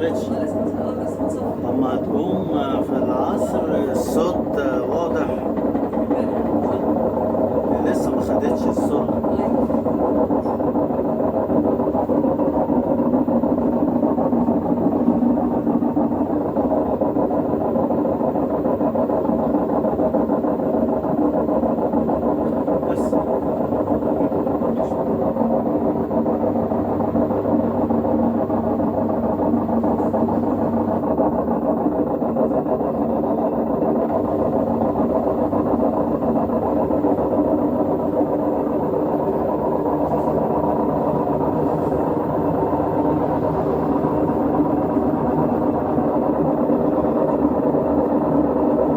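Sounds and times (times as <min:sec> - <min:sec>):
washing machine humming and rumbling: 0:00.0 - 0:48.9.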